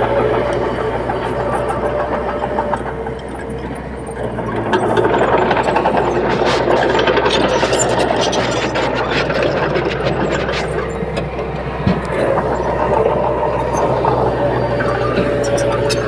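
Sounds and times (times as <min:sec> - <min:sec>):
engine clattering: 0:00.0 - 0:16.0
heavy diesel engine running: 0:00.0 - 0:16.0.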